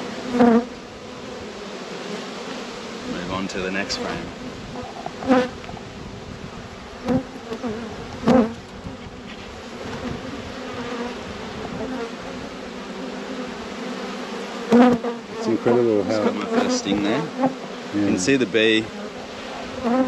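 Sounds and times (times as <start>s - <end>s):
honeybee colony humming: 0.0s - 20.0s.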